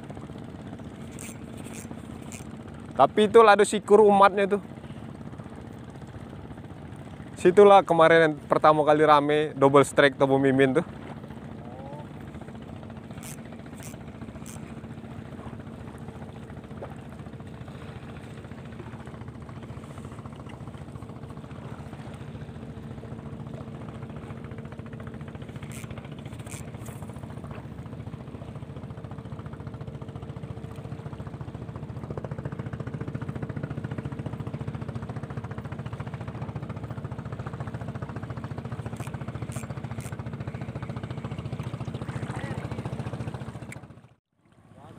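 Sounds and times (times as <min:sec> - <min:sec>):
small boat engine running: 0:00.0 - 0:44.9.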